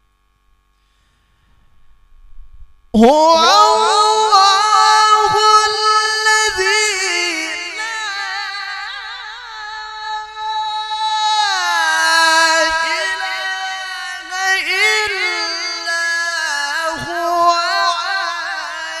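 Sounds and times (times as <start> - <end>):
man chanting through a microphone: 2.9 - 19.0.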